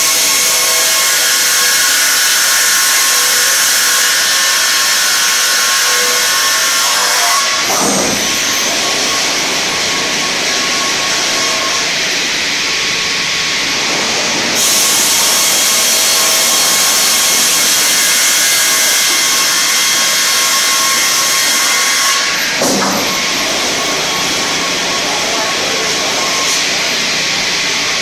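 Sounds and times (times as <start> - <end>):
saw blades humming and whining: 0.0 - 28.0
saw cutting through log: 0.0 - 28.0.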